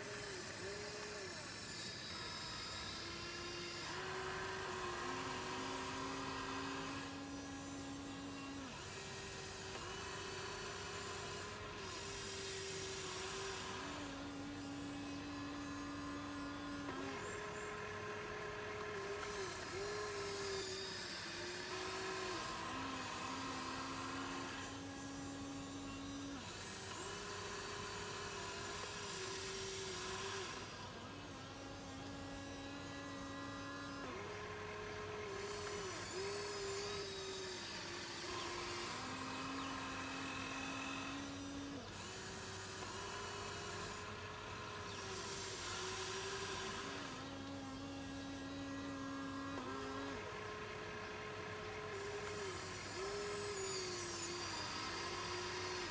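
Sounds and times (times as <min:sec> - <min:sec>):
small electric motors whining: 0:00.0 - 0:55.9.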